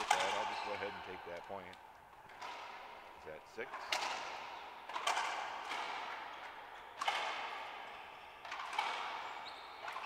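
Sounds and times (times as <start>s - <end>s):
racquetball hits echoing: 0.0s - 10.0s.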